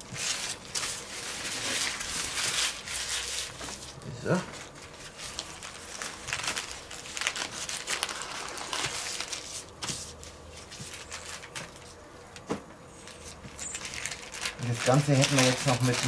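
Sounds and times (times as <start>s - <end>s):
baking paper crinkling: 0.0s - 12.1s, 12.9s - 16.0s.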